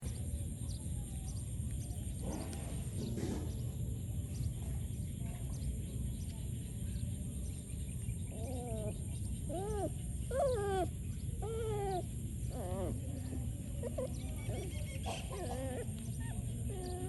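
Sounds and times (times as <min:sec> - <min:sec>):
steady low rumble: 0:00.0 - 0:14.4
birds chirping: 0:00.0 - 0:17.0.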